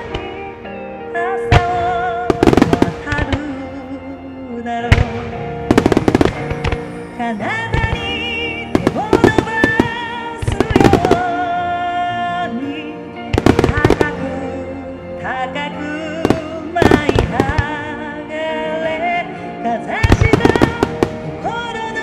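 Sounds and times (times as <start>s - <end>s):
hymn melody with held notes: 0.0s - 22.0s.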